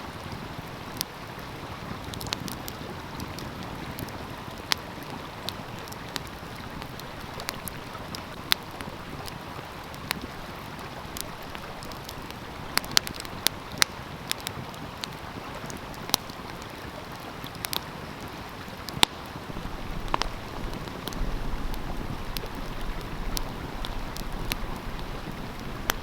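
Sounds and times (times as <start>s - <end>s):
stream flowing: 0.0s - 26.0s
wood fire crackling and popping: 0.1s - 26.0s.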